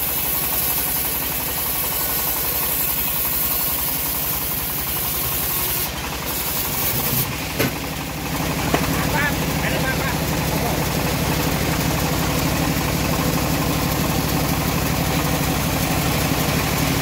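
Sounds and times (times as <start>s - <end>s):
bandsaw mill engine throbbing: 0.0s - 17.0s.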